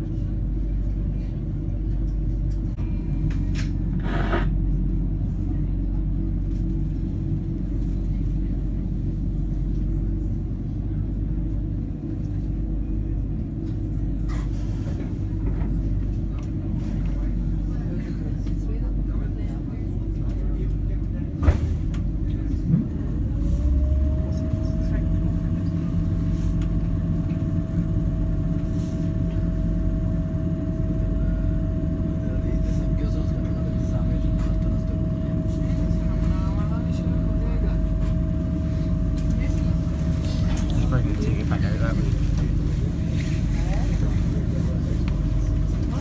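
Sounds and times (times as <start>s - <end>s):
train equipment humming: 0.0s - 46.0s.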